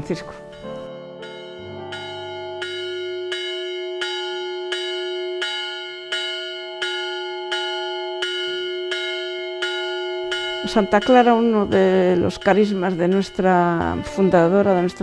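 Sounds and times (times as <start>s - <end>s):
bell ringing: 0.0s - 15.0s.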